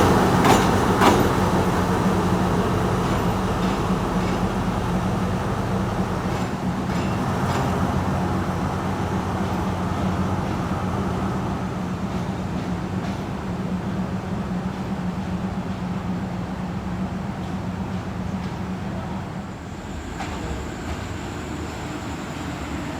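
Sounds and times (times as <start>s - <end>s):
diesel train engine running: 0.0s - 22.9s.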